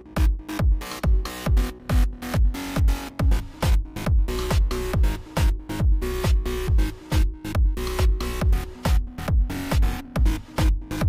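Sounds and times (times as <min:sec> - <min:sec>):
driving kick drum: 0:00.0 - 0:11.0
electronic dance music: 0:00.0 - 0:11.0.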